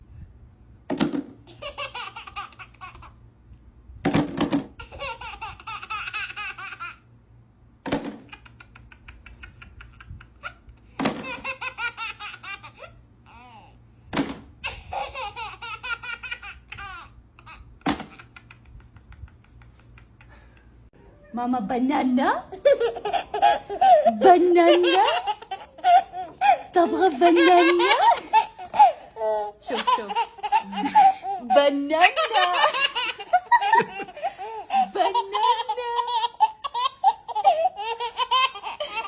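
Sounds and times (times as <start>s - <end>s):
baby laughing: 1.5s - 3.2s, 4.8s - 7.1s, 8.0s - 13.7s, 14.6s - 20.8s, 22.5s - 39.0s.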